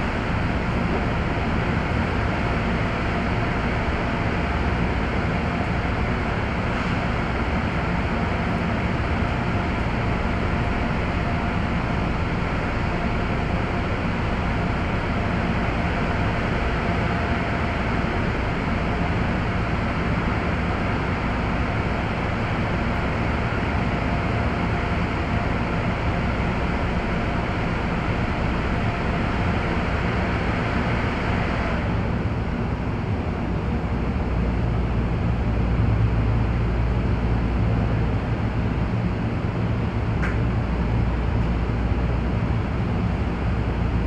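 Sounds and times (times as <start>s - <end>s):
train wheels and motors rumbling: 0.0s - 44.0s.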